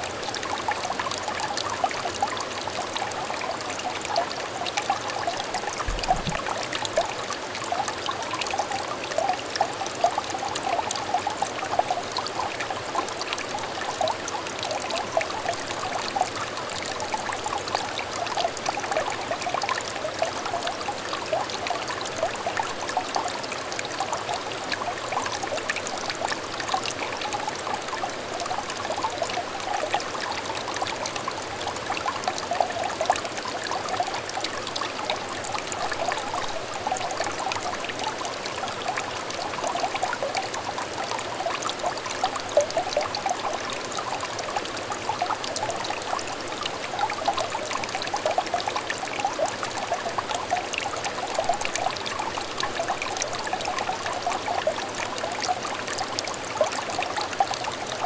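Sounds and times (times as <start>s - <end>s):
shallow stream trickling over stones: 0.0s - 58.0s.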